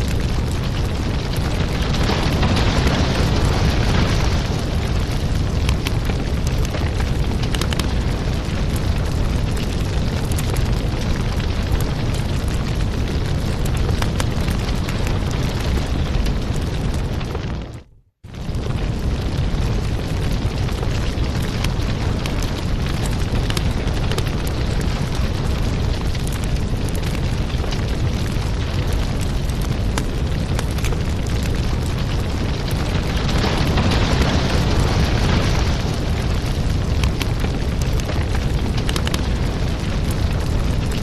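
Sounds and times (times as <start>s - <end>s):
low rumble of burning fire: 0.0s - 41.0s
wood fire pops and crackles: 0.0s - 41.0s.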